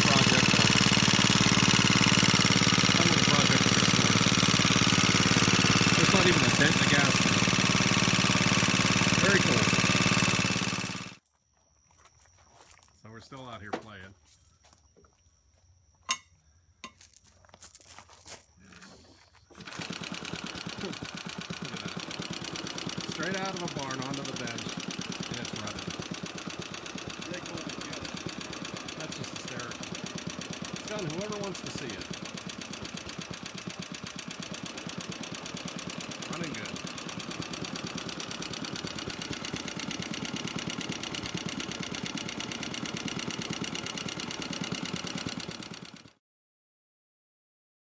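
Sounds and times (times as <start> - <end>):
small engine running: 0.0 - 11.2, 18.8 - 46.2.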